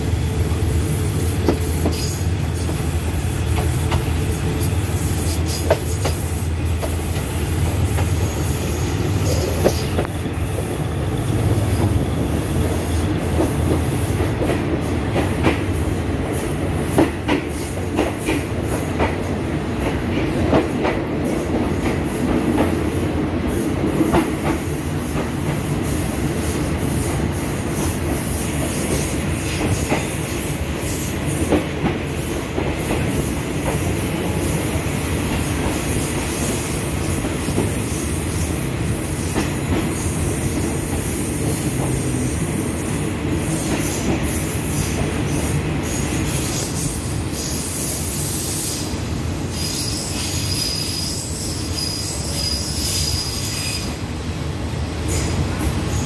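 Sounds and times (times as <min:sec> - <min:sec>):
train coaches rumbling: 0:00.0 - 0:56.0.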